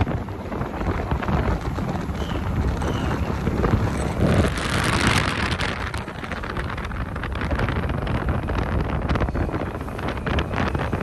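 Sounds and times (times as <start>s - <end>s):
bus passing: 0.0s - 11.0s
motorbike road and engine noise: 0.0s - 11.0s
wind buffeting microphone: 0.0s - 11.0s.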